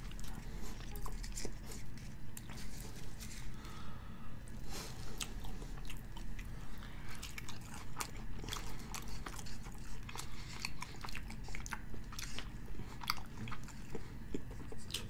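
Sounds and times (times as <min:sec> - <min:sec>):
chewing crispy fries: 0:00.0 - 0:03.9, 0:04.5 - 0:15.0.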